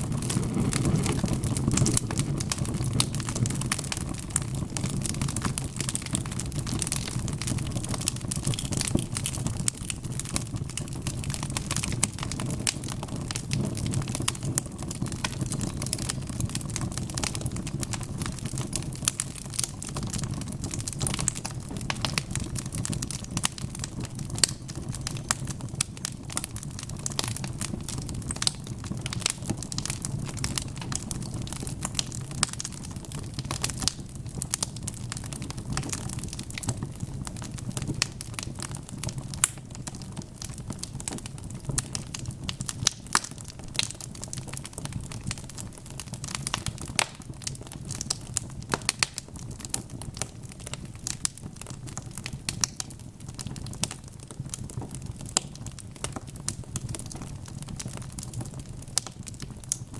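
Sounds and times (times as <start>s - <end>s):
low rumble of flame: 0.0s - 59.9s
wood fire crackling: 0.0s - 59.9s.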